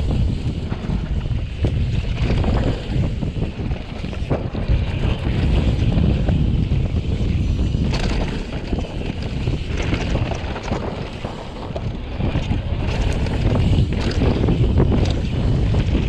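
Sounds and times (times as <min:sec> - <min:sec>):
bike clicks and rattles: 0:00.0 - 0:16.0
wind rumbling on microphone: 0:00.0 - 0:16.0.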